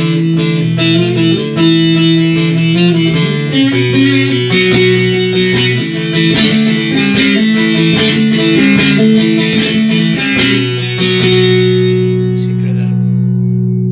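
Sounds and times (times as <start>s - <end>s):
plucked long-necked lute melody: 0.0s - 13.9s.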